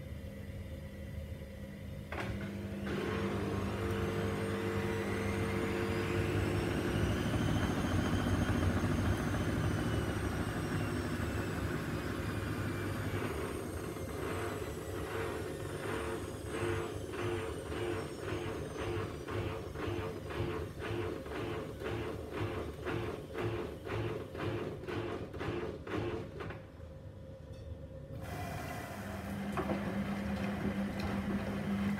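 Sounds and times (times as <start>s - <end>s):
washing machine motor whine: 0.0s - 27.2s, 28.1s - 31.9s.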